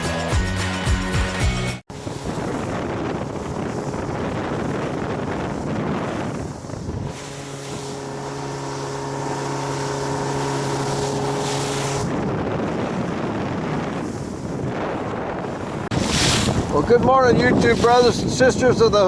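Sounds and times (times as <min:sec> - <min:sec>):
boat motor humming: 0:00.0 - 0:16.7
sea noise: 0:01.9 - 0:19.0
wind buffeting microphone: 0:01.9 - 0:19.0.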